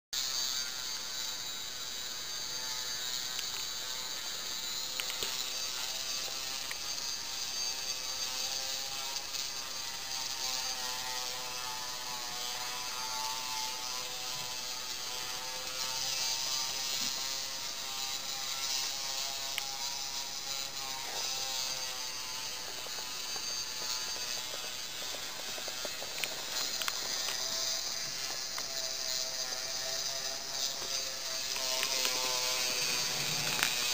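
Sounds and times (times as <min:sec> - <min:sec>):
small motor whirring: 0:00.2 - 0:33.9.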